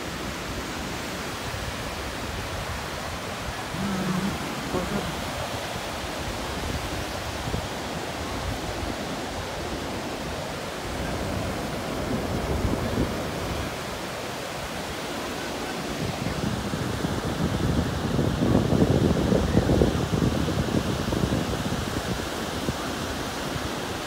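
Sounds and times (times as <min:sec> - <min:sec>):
waves breaking on sandy beach: 0:00.0 - 0:24.0
wind rumbling on microphone: 0:00.0 - 0:24.0.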